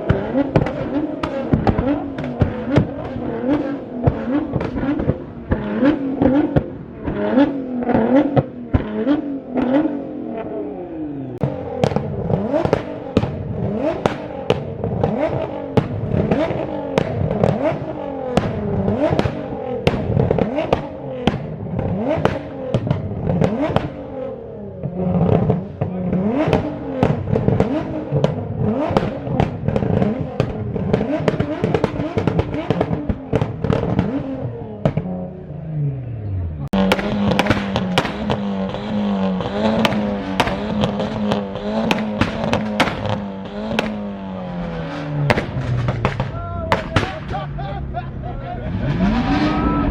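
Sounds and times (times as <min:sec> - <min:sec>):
exhaust pops and bangs: 0:00.0 - 0:10.5, 0:11.4 - 0:35.4, 0:36.6 - 0:47.7
car engine revving: 0:00.0 - 0:49.9.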